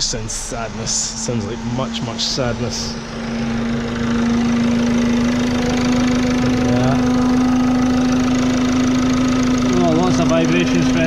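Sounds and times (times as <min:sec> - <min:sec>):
diesel engine idling: 0:00.0 - 0:11.0
loud droning tone: 0:00.0 - 0:11.0.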